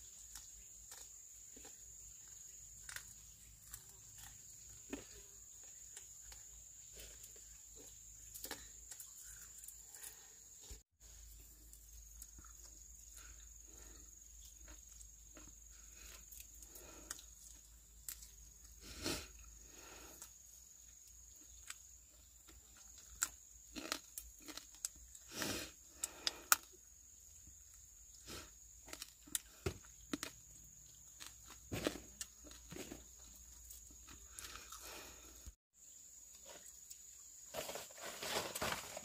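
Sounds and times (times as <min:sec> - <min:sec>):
crunching and rustling: 0:00.0 - 0:26.7, 0:27.6 - 0:35.6, 0:36.4 - 0:39.0.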